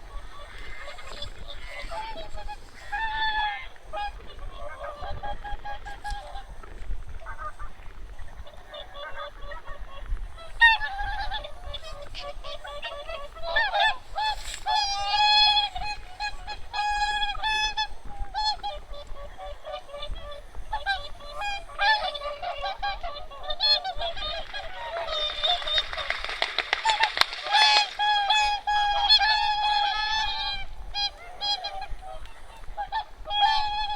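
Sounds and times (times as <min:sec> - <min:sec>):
geese and swans honking: 0:00.0 - 0:33.9.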